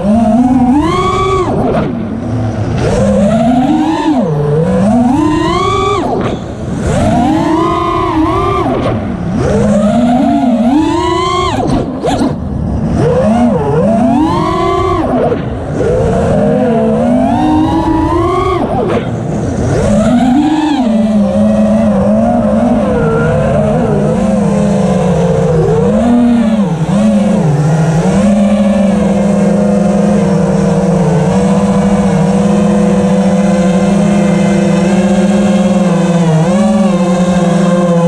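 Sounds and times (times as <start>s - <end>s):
quadcopter motors buzzing whine: 0.0s - 38.0s.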